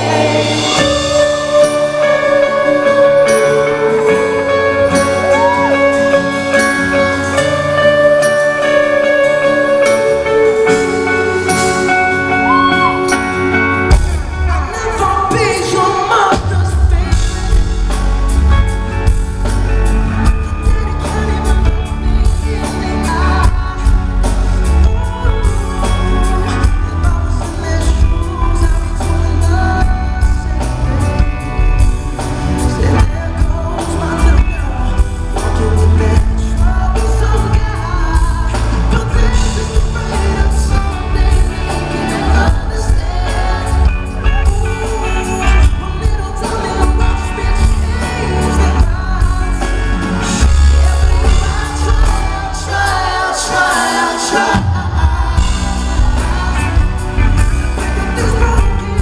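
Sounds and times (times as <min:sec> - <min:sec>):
lead singer singing: 0:00.0 - 0:59.0
live band playing ballad: 0:00.0 - 0:59.0.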